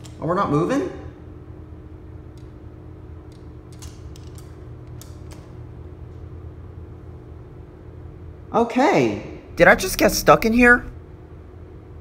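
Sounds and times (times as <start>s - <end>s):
steady low elevator hum: 0.0s - 12.0s.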